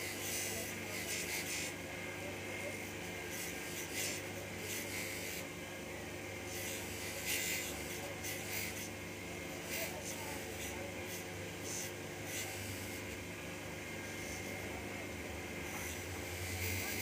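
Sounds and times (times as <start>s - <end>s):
blade rasping on buffing wheel: 0.0s - 5.5s, 6.4s - 13.2s, 14.0s - 14.9s, 15.6s - 17.0s
buffing machine humming: 0.0s - 17.0s.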